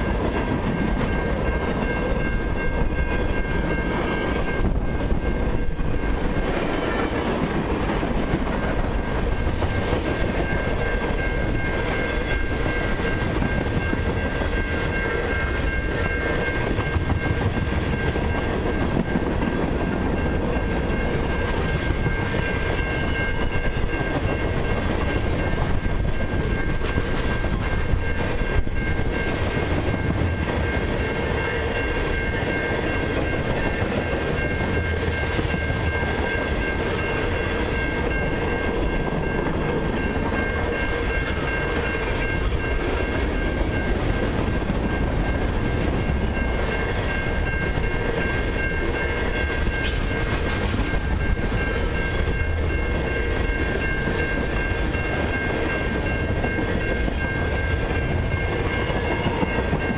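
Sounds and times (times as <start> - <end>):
steady high tone: 0.0 - 59.9
steel wheels rumbling on rails: 0.0 - 59.9.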